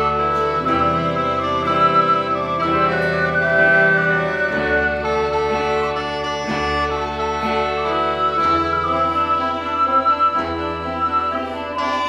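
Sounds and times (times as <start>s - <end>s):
flute melody: 0.0s - 12.0s
mouth organ chords: 0.0s - 12.0s.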